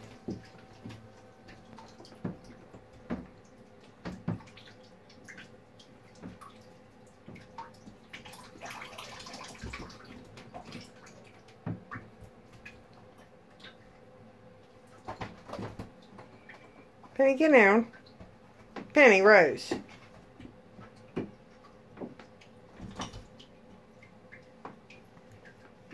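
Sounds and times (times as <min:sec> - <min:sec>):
water splashing in bathtub: 0:00.0 - 0:25.9.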